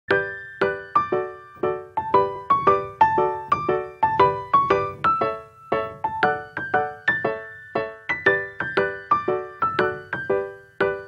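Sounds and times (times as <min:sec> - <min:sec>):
keyboard melody: 0:00.1 - 0:11.0.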